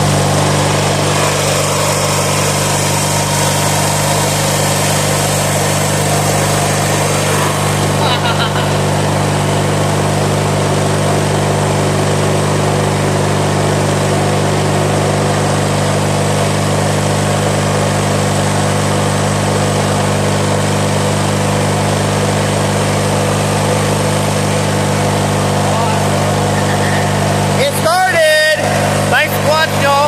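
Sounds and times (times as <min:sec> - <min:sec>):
lawnmower engine running: 0:00.0 - 0:30.0.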